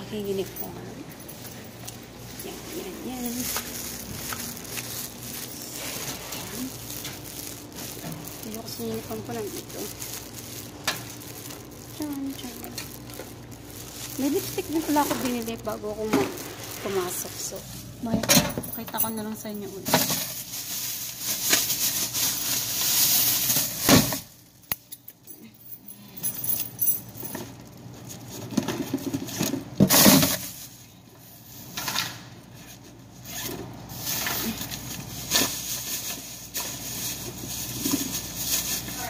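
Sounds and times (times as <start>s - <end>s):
rustling and handling noises: 0.1s - 39.0s.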